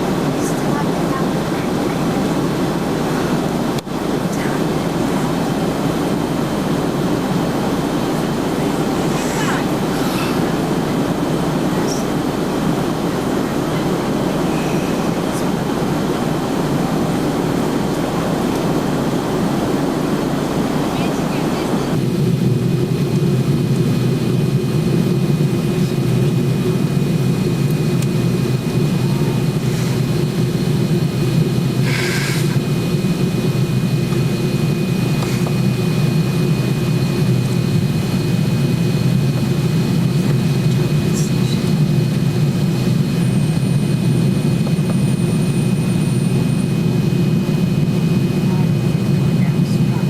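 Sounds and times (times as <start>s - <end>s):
jet engines droning: 0.0s - 50.0s.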